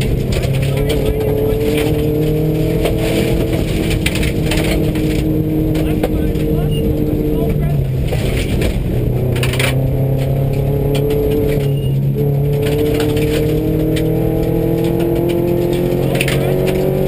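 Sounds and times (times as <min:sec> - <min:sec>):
car engine under load: 0:00.0 - 0:17.0.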